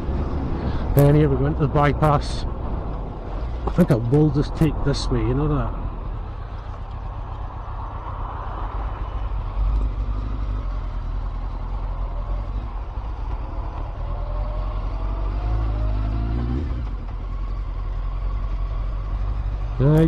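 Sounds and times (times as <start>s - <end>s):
wind and road noise: 0.0s - 20.0s.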